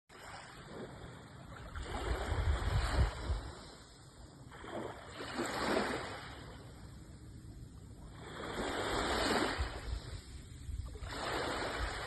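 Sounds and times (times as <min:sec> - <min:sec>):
sea waves washing on shore: 0:00.1 - 0:12.0.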